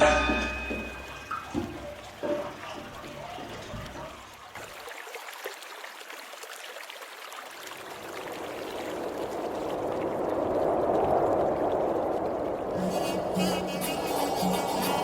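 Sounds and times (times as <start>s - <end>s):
water trickling and gurgling: 0.1s - 15.0s
small water splashes: 0.3s - 13.8s.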